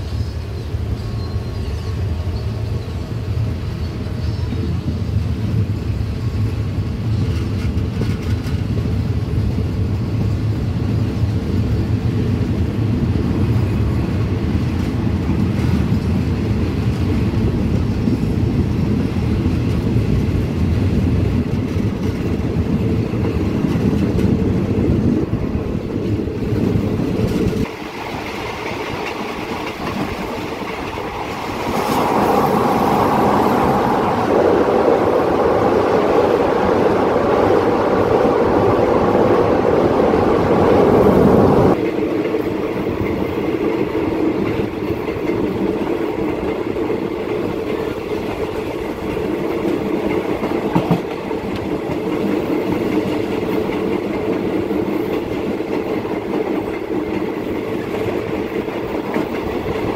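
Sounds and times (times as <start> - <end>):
train rattling on a steel bridge: 0.0 - 59.9
train wheels rumbling: 0.0 - 59.9.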